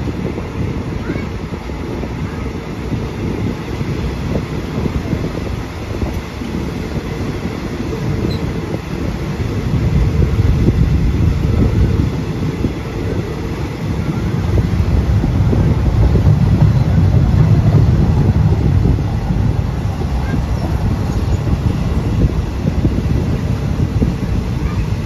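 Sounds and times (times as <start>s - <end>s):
diesel freight train passing: 0.0s - 25.0s
train wheels on rails: 0.0s - 25.0s.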